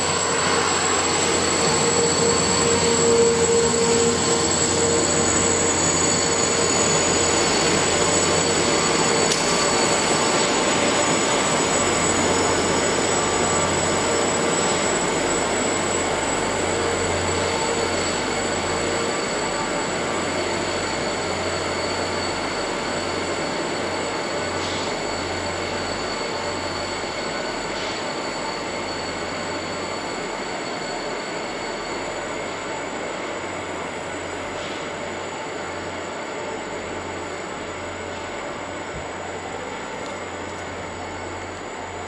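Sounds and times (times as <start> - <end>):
rail grinder train rushing noise: 0.0 - 42.0
thin high whine: 0.0 - 42.0.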